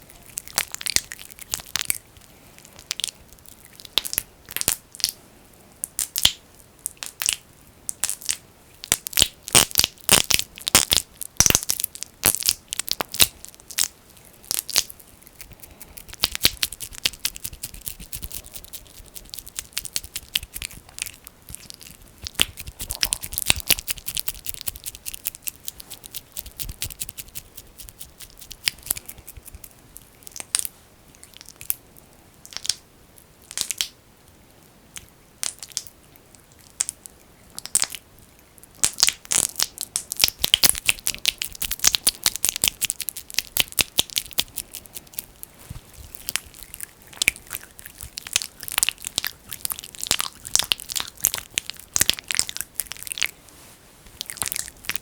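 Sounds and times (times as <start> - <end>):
fingers kneading sticky jelly: 0.0 - 5.2, 5.8 - 31.8, 38.6 - 53.4, 54.1 - 55.0.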